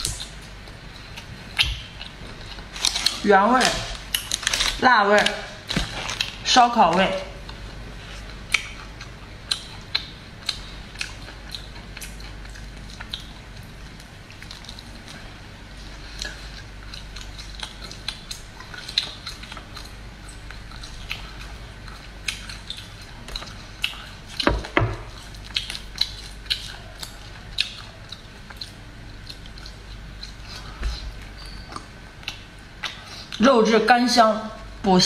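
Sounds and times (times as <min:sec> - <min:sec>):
chewing and tearing food: 0:00.0 - 0:33.5.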